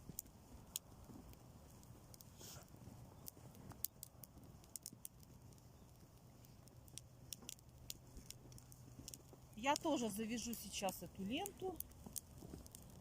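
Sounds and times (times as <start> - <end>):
bonfire crackling: 0.0 - 13.0.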